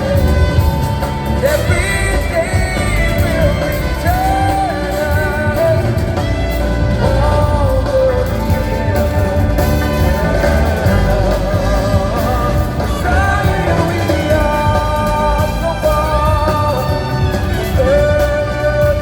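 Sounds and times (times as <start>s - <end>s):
live band music: 0.0s - 19.0s
sustained sliding melody line: 0.0s - 19.0s.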